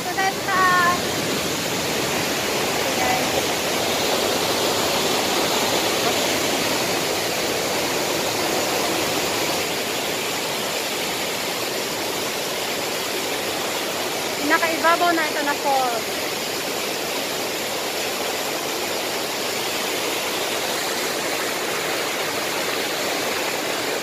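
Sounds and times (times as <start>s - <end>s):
waterfall rushing onto rocks: 0.0s - 24.0s.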